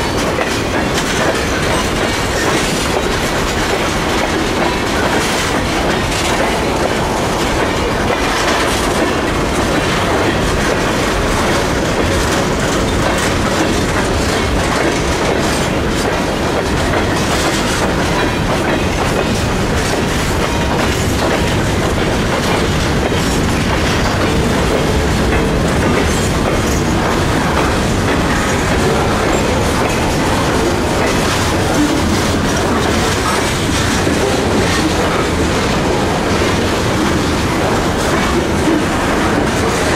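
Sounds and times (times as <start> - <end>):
train wheels rumbling on rail: 0.0 - 39.9
wheels clicking over rail joints: 0.0 - 39.9.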